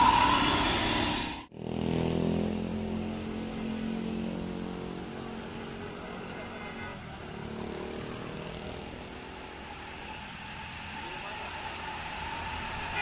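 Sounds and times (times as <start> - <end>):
bus engine pulling uphill: 0.0 - 13.0
motorcycles passing: 0.0 - 13.0
road traffic passing: 0.0 - 13.0.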